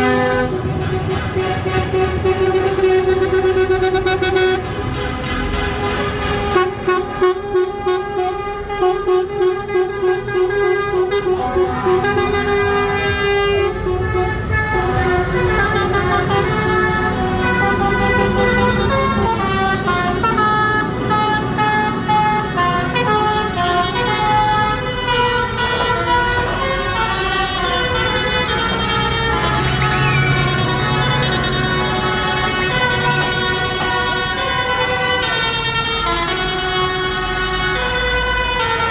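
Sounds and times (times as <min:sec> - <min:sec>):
truck engines running: 0:00.0 - 0:38.9
truck horns playing a tune: 0:00.0 - 0:38.9.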